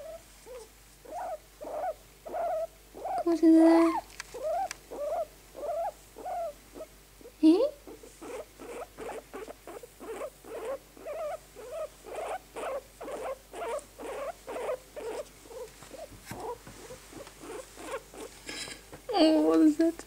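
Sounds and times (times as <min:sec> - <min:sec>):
guinea pig squeaking: 0:00.0 - 0:18.5.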